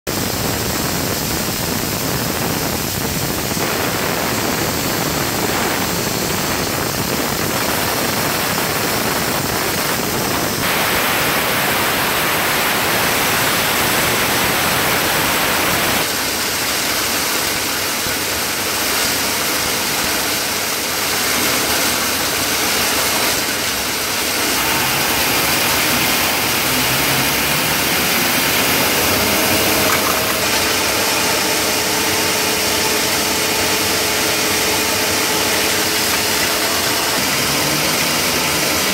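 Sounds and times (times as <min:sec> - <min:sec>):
inspection machine running: 0:00.1 - 0:38.9.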